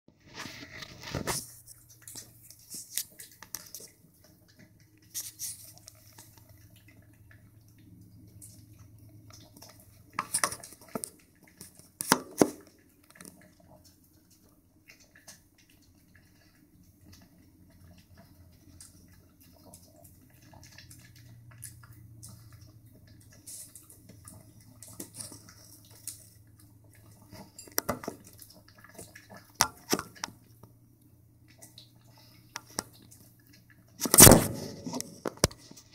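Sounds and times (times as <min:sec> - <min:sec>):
puppy eating from bowl: 0:00.2 - 0:35.9.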